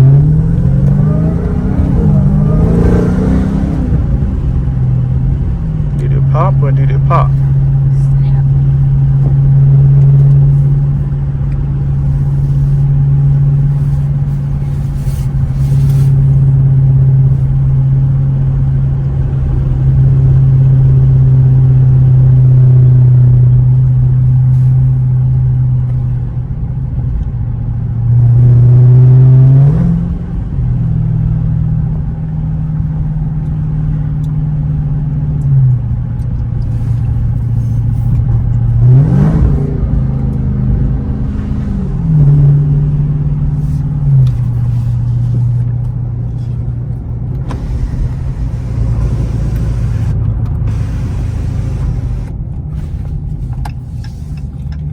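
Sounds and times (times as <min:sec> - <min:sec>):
car engine drone: 0:00.0 - 0:54.9.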